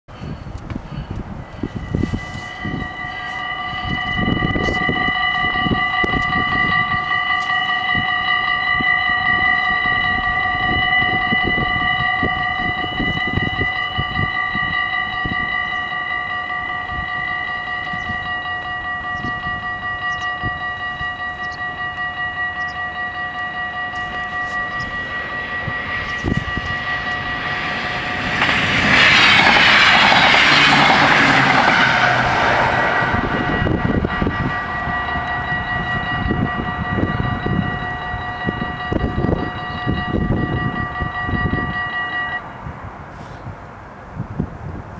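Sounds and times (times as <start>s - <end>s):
level-crossing warning bells: 0.2s - 42.8s
train rushing past: 0.4s - 44.9s.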